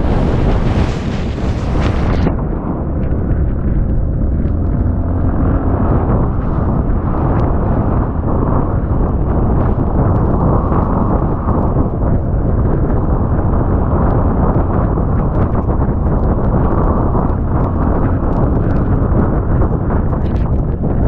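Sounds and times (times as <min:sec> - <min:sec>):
wind buffeting microphone: 0:00.0 - 0:21.0
motorbike engine running: 0:01.5 - 0:20.9.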